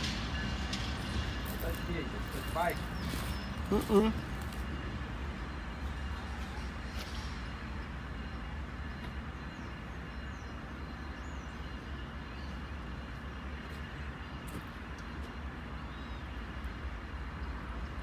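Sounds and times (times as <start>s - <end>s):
diesel locomotive rumbling: 0.0s - 18.0s.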